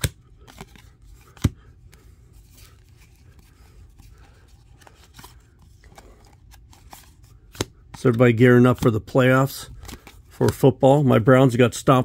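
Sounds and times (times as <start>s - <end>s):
cards scraping and ticking: 0.0s - 9.0s, 9.6s - 10.7s.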